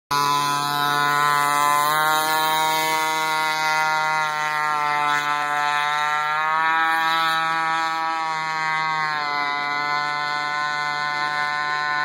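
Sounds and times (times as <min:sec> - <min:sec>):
two-stroke motor buzzing: 0:00.1 - 0:12.0.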